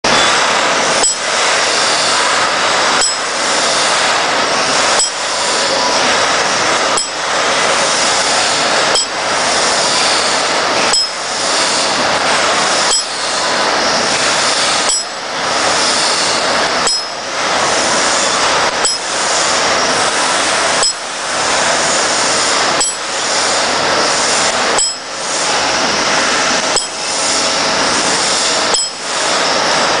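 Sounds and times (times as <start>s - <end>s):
machine tooling clinking and clacking: 0.0s - 25.6s, 26.5s - 30.0s.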